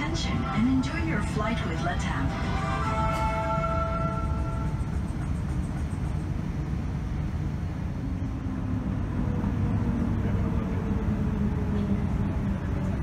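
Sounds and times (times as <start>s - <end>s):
faint hum: 0.0s - 11.4s
aircraft engines rumbling: 0.0s - 13.0s.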